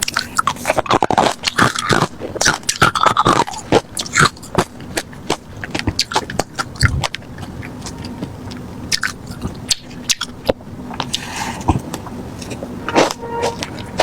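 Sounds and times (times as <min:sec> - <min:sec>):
ice being chewed: 0:00.0 - 0:12.6.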